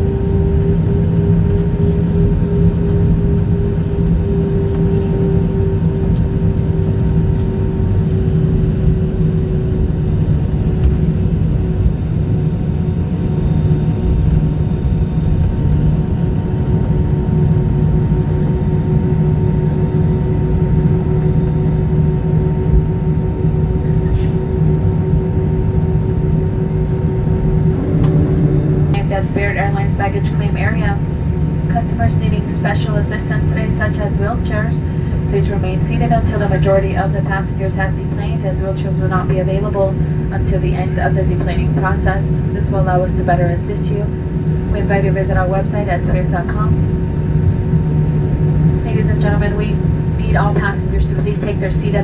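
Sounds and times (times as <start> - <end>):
constant whining tone: 0.0 - 52.0
jet engine cabin drone: 0.0 - 52.0.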